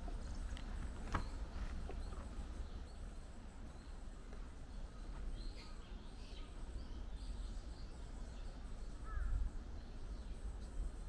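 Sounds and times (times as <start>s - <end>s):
low bird call: 0.0s - 10.8s
small birds chirping: 0.0s - 11.0s.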